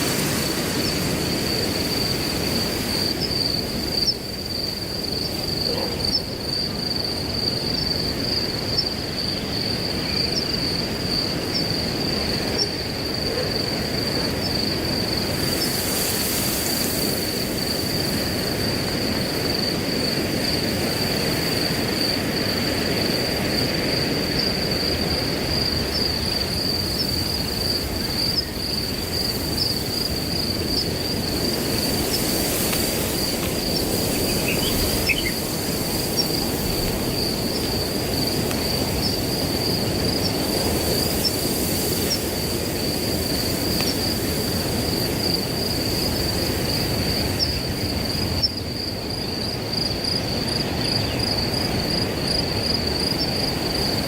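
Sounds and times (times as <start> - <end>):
crickets trilling: 0.0 - 54.0
wind rustling grass: 0.0 - 54.0.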